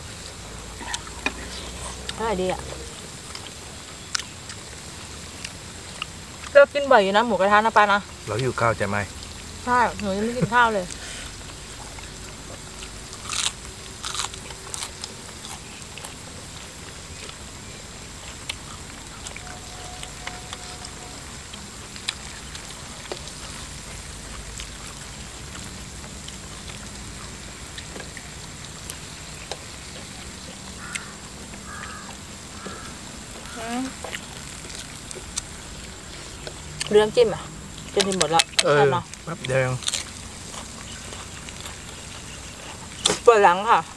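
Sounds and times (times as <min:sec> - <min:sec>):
steady low hiss: 0:00.0 - 0:43.9
person chewing: 0:00.2 - 0:06.5, 0:10.9 - 0:37.0, 0:37.7 - 0:43.3.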